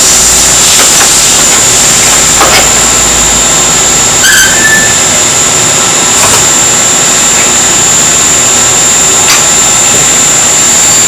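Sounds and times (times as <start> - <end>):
lathe hissing with high whine: 0.0 - 11.0.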